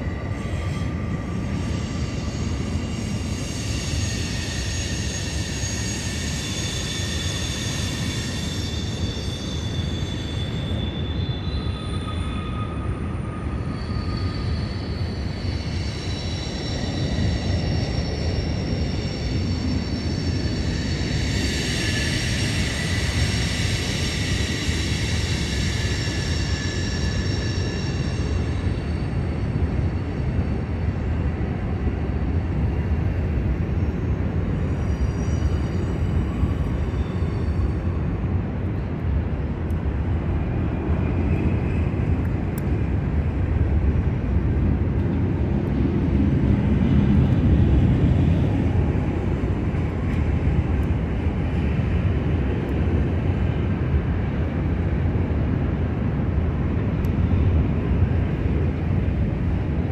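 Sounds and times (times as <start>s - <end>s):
freight train rumble: 0.0s - 59.9s
train wheels squealing: 0.0s - 59.9s.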